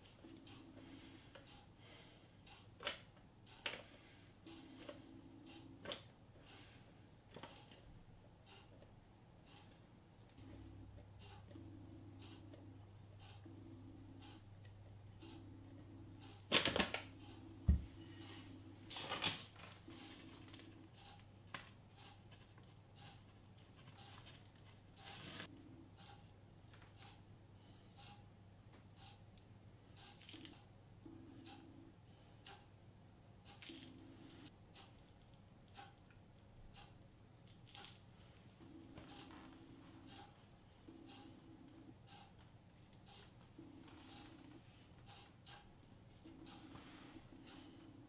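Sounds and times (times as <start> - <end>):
low room hum: 0.0 - 48.0.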